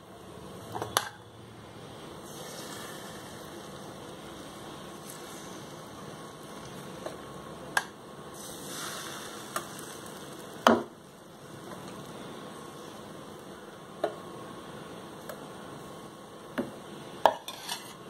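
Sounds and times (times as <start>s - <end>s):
faint steady hiss: 0.0s - 17.4s.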